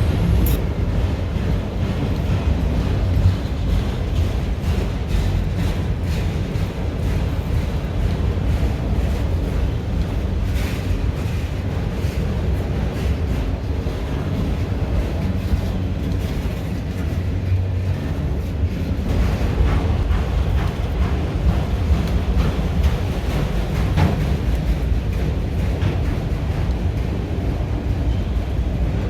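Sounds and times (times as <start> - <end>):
freight train rumbling past: 0.0 - 29.0
wind buffeting microphone: 0.0 - 29.0.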